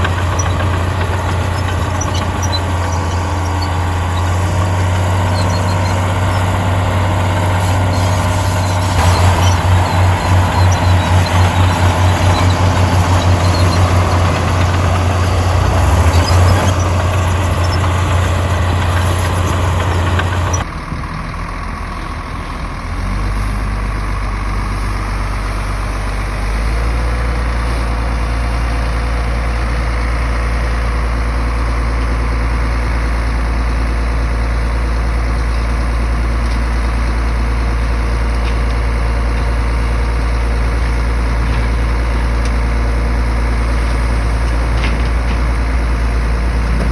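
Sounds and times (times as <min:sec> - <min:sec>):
heavy diesel machinery drone: 0:00.0 - 0:46.9.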